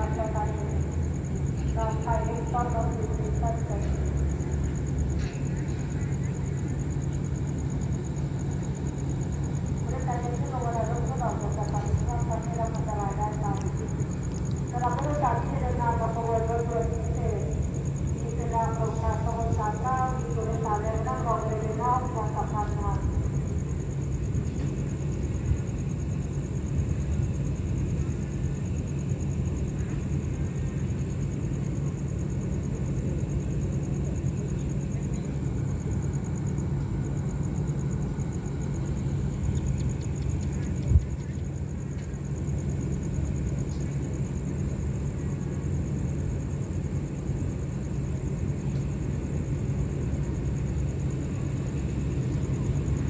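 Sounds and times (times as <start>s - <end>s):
diesel train engines idling: 0.0s - 53.0s.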